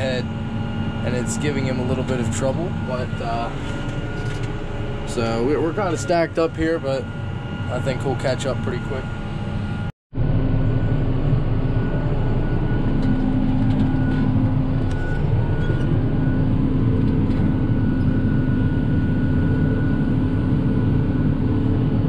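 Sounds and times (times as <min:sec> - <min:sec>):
steady whine: 0:00.0 - 0:22.0
tractor engine droning: 0:00.0 - 0:22.0.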